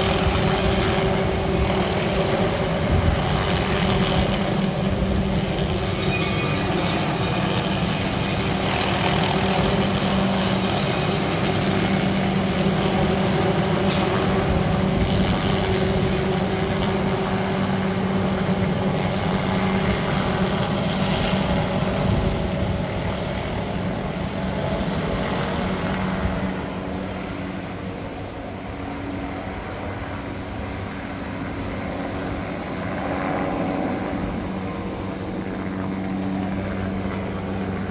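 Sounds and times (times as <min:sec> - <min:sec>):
helicopter rotor noise: 0:00.0 - 0:37.9.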